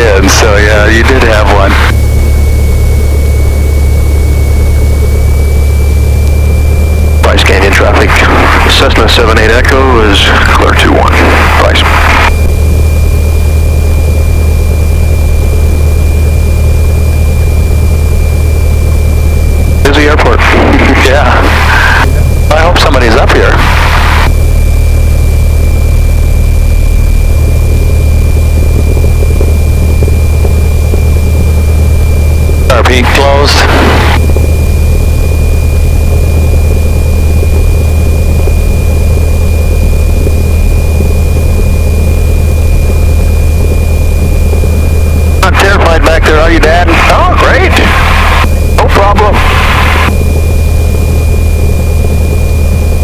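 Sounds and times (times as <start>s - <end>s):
propeller plane engine droning: 0.0s - 53.0s
thin whine: 0.0s - 53.0s.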